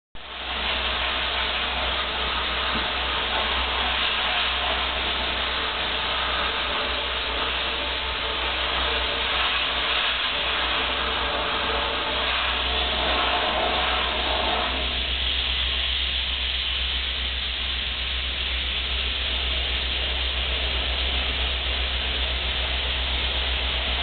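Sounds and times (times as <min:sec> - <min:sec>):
low rumble: 0:00.2 - 0:24.0.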